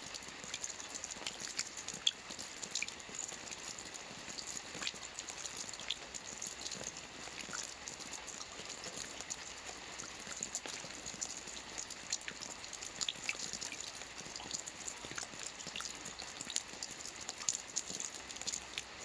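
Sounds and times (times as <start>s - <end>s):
rain pattering on a roof: 0.0s - 19.0s.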